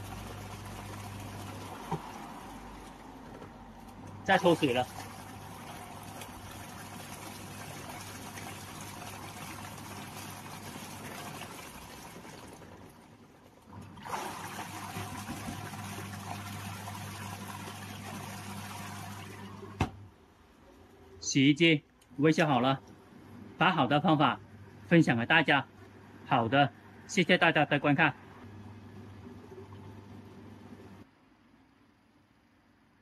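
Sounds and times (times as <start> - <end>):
washing machine draining water: 0.0 - 21.5, 22.2 - 31.1
low mains hum: 0.0 - 33.0.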